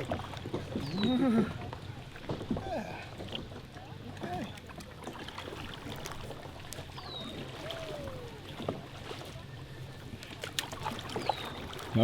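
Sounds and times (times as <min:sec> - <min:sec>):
water against kayak hull: 0:00.0 - 0:12.0.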